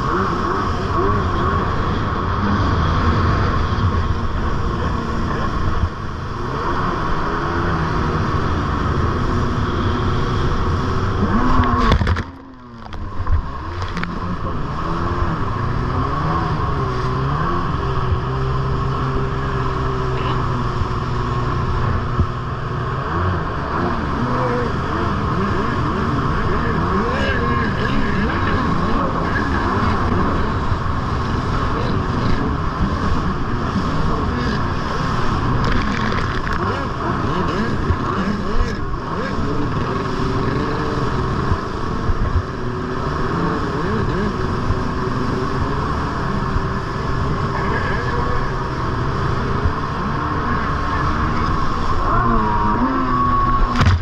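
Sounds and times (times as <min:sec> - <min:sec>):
jet ski engine running hard: 0:00.0 - 0:54.0.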